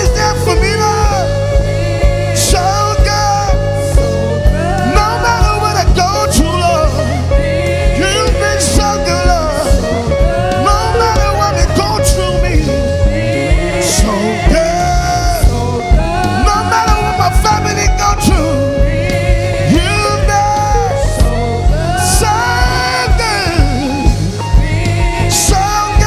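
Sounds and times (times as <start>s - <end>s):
band playing worship music: 0.0s - 26.0s
drum beat: 0.0s - 26.0s
person singing: 0.0s - 26.0s.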